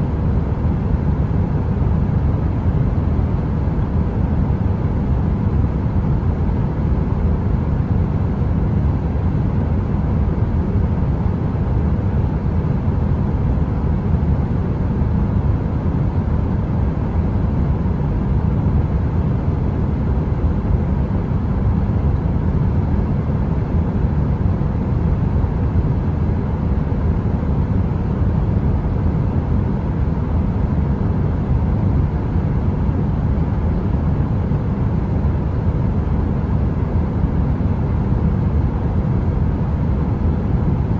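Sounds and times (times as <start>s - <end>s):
faint hum: 0.0s - 40.9s
heater fan blowing: 0.0s - 40.9s.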